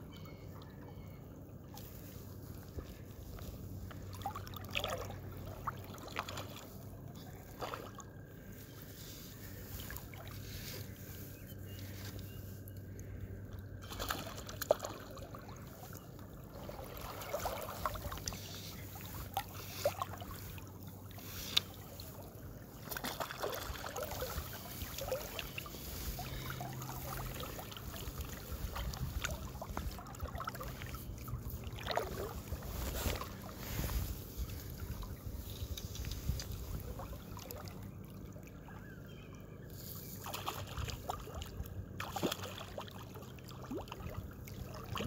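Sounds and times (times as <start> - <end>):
creek water lapping and gurgling: 0.0 - 45.0.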